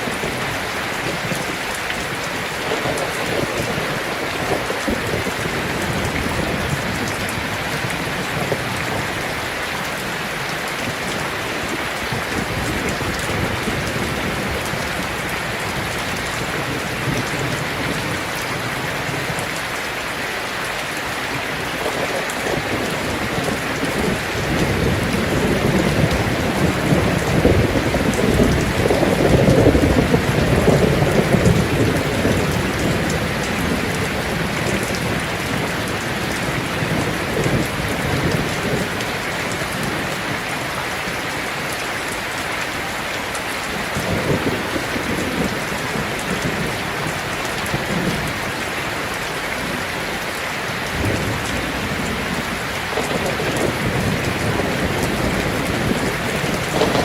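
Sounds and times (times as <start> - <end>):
thunder rumbling: 0.0 - 20.0, 21.5 - 40.8, 43.8 - 57.0
heavy rain on a tin roof: 0.0 - 57.0.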